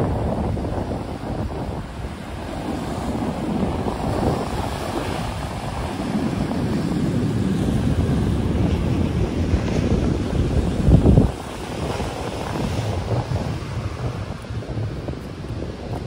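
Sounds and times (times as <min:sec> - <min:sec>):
surf breaking on sand beach: 0:00.0 - 0:16.0
wind buffeting microphone: 0:00.0 - 0:16.0.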